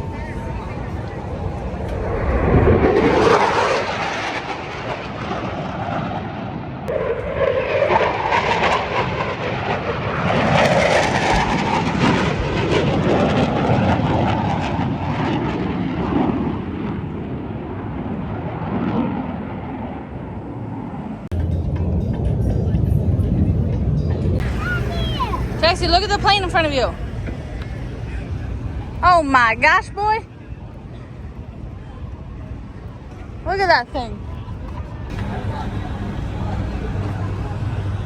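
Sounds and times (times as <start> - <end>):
jet engine roar: 0.0 - 21.4, 24.2 - 38.0.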